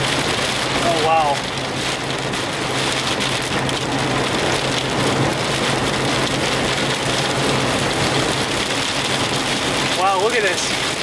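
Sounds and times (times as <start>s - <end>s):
car low hum: 0.0s - 11.0s
rain hitting a car: 0.0s - 11.0s.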